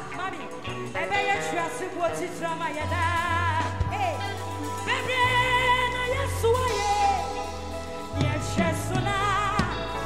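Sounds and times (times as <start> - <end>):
bass guitar: 0.0 - 10.0
electric guitar: 0.0 - 10.0
keyboards: 0.0 - 10.0
live band playing: 0.0 - 10.0
woman singing with vibrato: 0.0 - 10.0.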